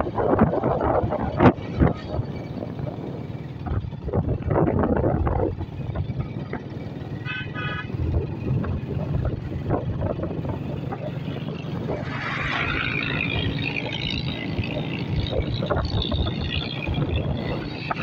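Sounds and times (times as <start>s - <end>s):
motorcycle engine running: 0.0s - 18.0s
wind on microphone: 0.0s - 18.0s.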